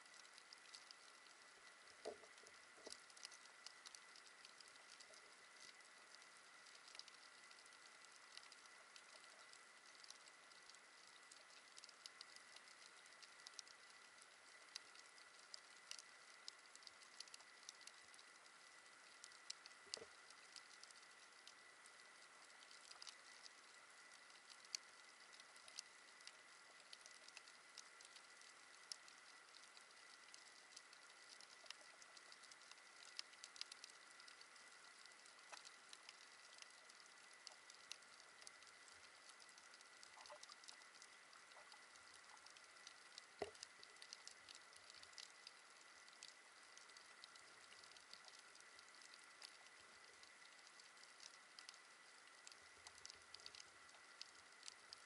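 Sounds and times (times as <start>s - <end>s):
faint high hum: 0.0s - 55.0s
underwater reef crackle: 0.0s - 55.0s.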